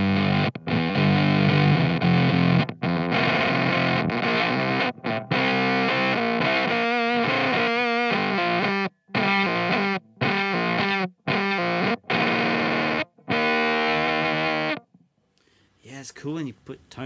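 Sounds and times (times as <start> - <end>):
fuzzy distorted electric guitar: 0.0 - 15.0.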